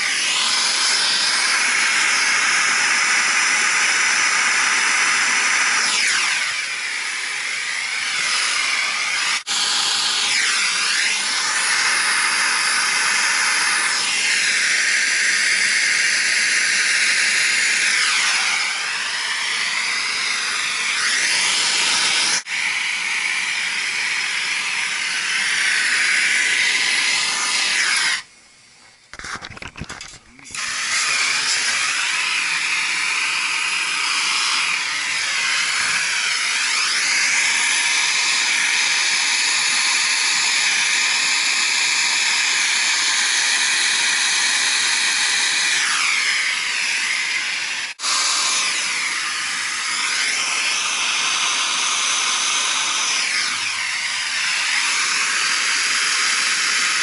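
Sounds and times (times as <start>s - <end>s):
power tool running: 0.0s - 28.3s, 29.1s - 57.0s.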